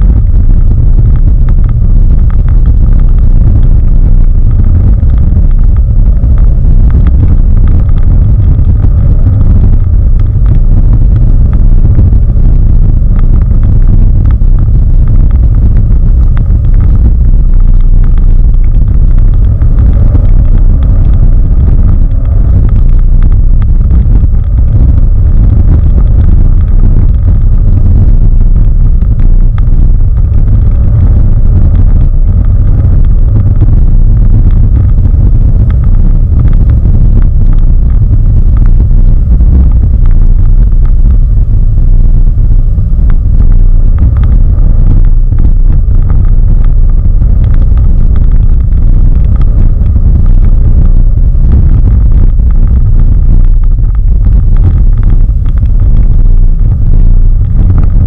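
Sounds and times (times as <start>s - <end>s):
car engine and tyres rumbling: 0.0s - 48.7s.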